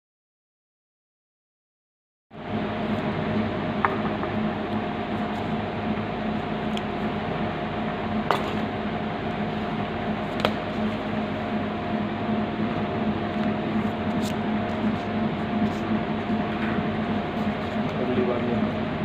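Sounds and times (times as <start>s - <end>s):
steady low hum: 2.3s - 19.0s.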